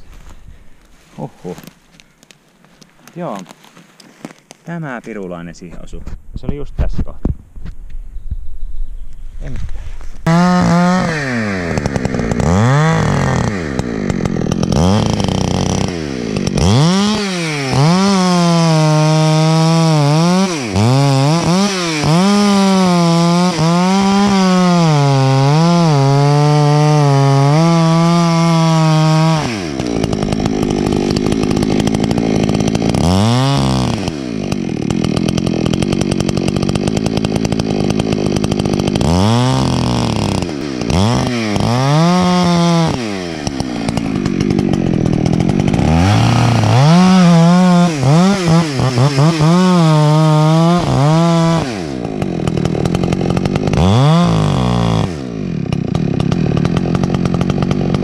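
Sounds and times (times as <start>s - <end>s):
chainsaw cutting wood: 10.1s - 58.0s.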